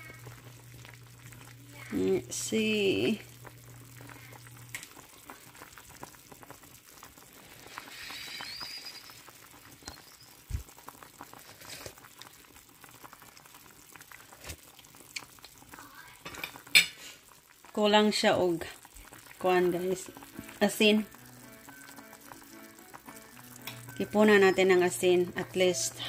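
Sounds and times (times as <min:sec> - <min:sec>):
soup bubbling and popping: 0:00.0 - 0:26.0.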